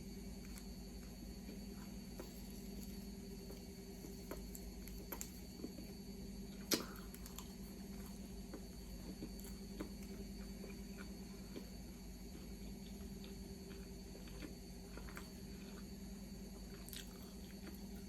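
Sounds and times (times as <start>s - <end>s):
chewing clicks and crunches: 0.4s - 5.9s, 6.6s - 18.0s.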